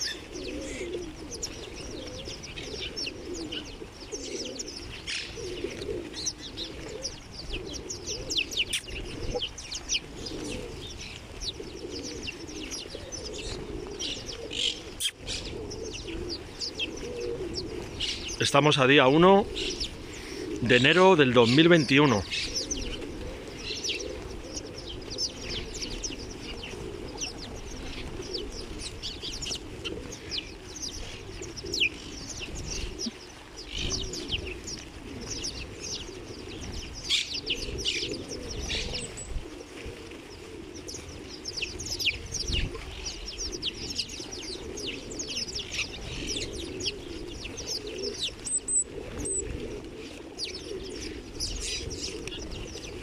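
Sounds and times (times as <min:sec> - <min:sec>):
sparrows chirping: 0:00.0 - 0:53.0
wings fluttering: 0:00.0 - 0:53.0.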